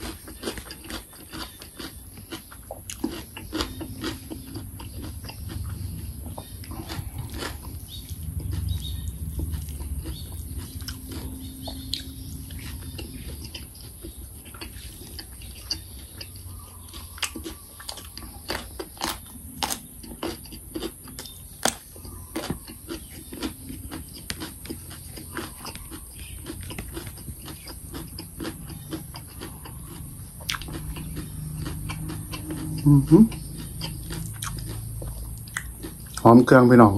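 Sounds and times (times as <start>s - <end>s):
chewing sticky food: 0.0s - 36.9s.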